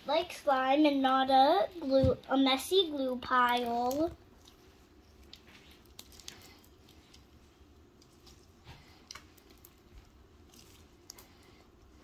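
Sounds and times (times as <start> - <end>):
slime squishing: 1.8 - 12.0.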